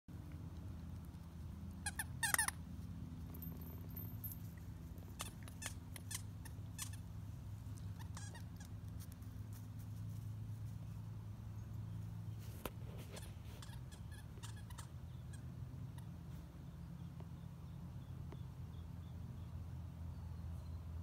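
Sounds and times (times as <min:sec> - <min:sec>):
steady low hum: 0:00.1 - 0:21.0.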